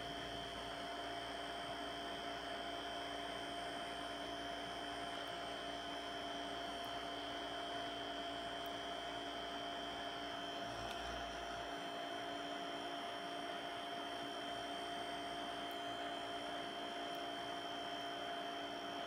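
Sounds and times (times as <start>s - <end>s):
electric heater humming: 0.0s - 19.0s.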